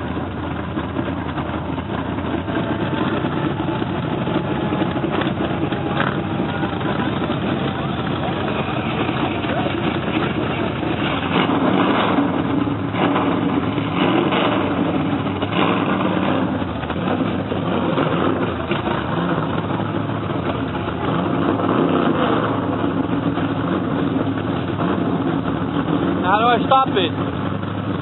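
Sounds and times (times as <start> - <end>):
truck engine running loudly: 0.0 - 28.0.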